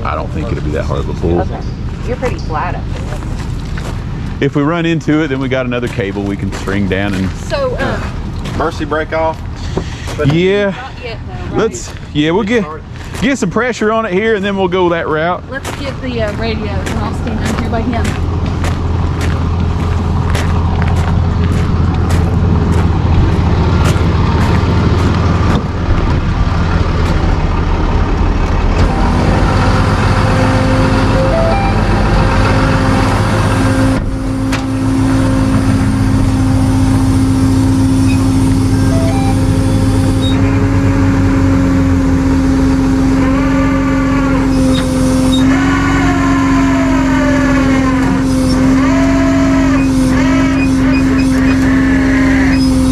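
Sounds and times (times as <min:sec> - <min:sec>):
steady whine: 0:00.0 - 0:52.9
tow truck engine running: 0:00.0 - 0:52.9.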